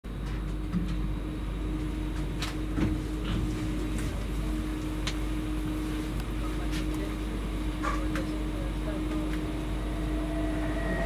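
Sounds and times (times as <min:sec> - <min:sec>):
low train rumble: 0:00.1 - 0:11.0
electric train drone: 0:01.2 - 0:11.0.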